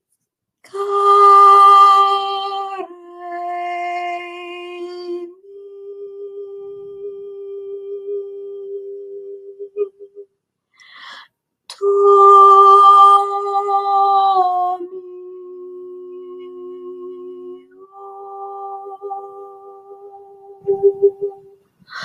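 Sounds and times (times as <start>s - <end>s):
person singing wordless held notes: 0.7s - 10.2s, 11.7s - 22.0s.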